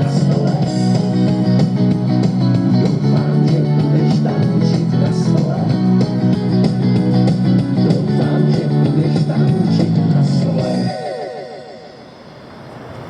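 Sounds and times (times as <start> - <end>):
band music with strummed guitars: 0.0 - 11.0.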